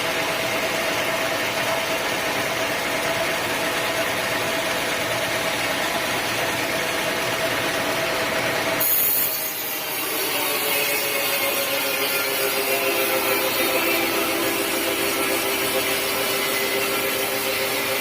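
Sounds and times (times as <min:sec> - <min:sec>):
sawmill saw running: 0:00.0 - 0:18.0.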